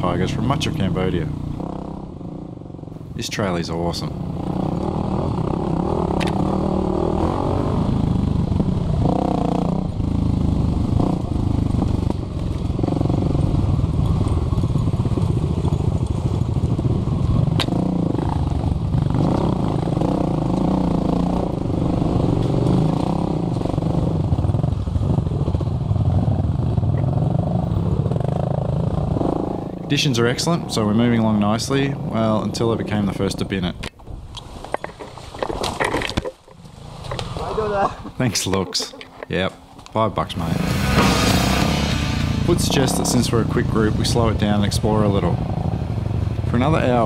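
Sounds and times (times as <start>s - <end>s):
dirt bike engine revving: 0.0s - 3.1s, 3.8s - 33.3s, 40.2s - 47.0s.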